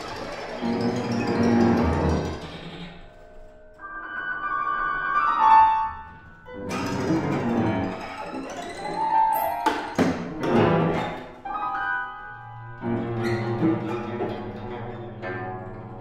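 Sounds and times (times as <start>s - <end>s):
piano notes: 0.0s - 16.0s.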